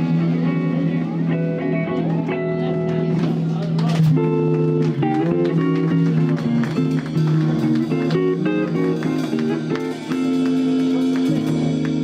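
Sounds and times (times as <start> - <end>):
double bass line: 0.0 - 12.0
plucked guitar chords: 0.0 - 12.0.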